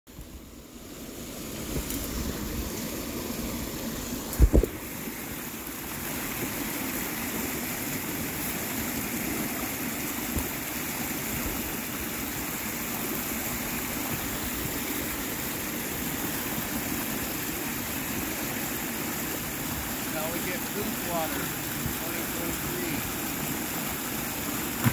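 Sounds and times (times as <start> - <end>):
creek rushing: 0.2 - 24.9.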